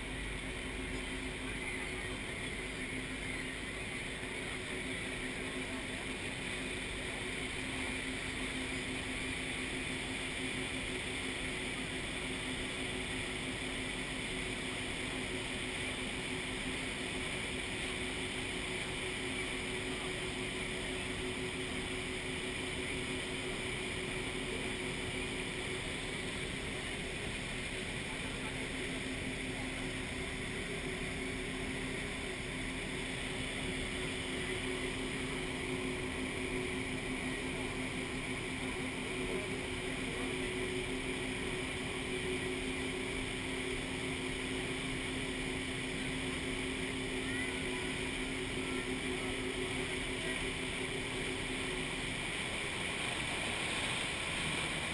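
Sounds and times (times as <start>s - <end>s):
boat engine humming: 0.0s - 54.9s
rushing water: 0.0s - 54.9s.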